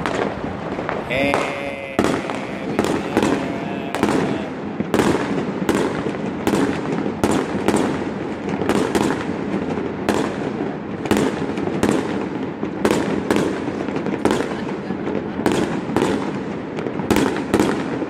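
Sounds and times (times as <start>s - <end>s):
fireworks bursting with bangs: 0.0s - 18.0s.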